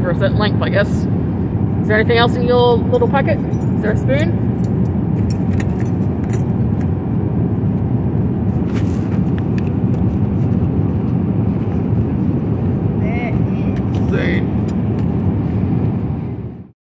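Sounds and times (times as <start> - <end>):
airliner cabin drone: 0.0 - 16.8.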